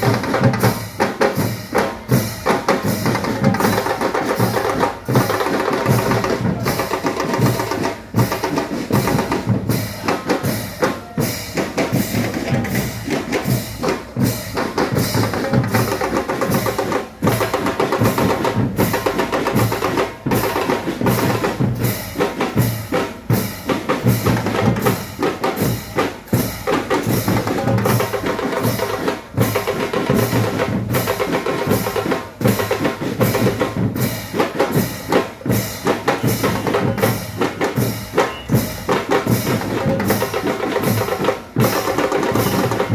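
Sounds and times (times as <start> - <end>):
bass drum and snare beat: 0.0 - 42.9.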